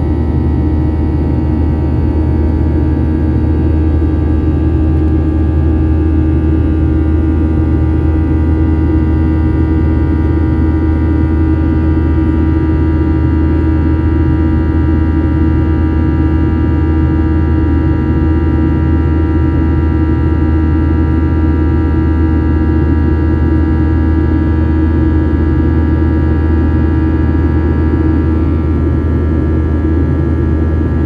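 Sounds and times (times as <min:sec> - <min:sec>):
jet engines droning in cabin: 0:00.0 - 0:31.0.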